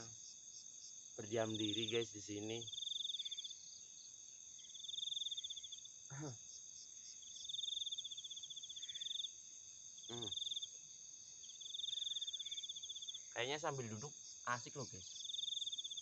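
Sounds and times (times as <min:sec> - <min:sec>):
crickets trilling: 0:00.0 - 0:16.0
steady insect drone: 0:00.0 - 0:16.0.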